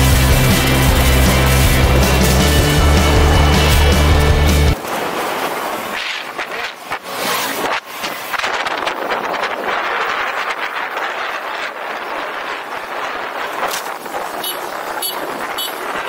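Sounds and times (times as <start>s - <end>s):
scooter engine and road noise: 0.0s - 16.0s
wind rushing over microphone: 0.0s - 16.0s.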